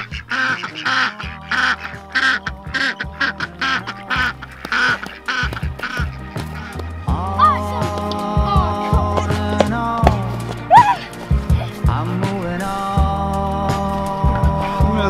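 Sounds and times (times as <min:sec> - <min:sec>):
ducks quacking: 0:00.0 - 0:12.9
background music with bass: 0:00.0 - 0:15.0.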